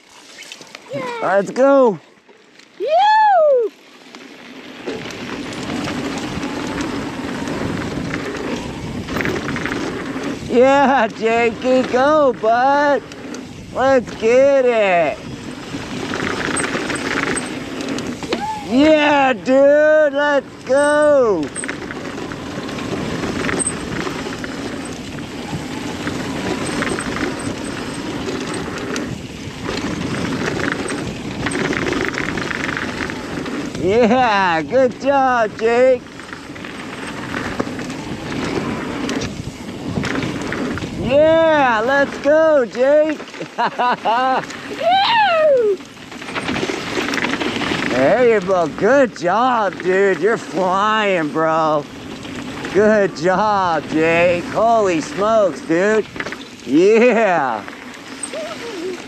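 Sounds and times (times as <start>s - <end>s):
bike tyres on dirt and gravel: 0.0s - 59.0s
wind rush on microphone: 5.0s - 43.2s, 44.2s - 59.0s.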